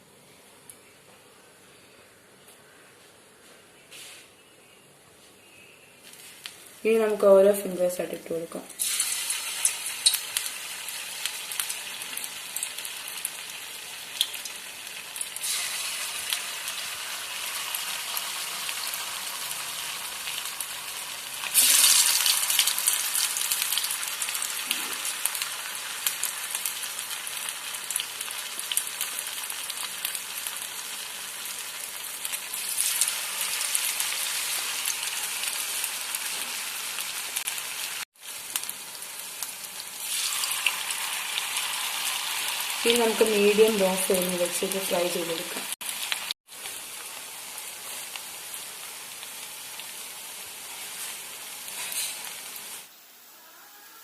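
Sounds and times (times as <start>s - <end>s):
food deep-frying in oil: 8.7s - 53.0s.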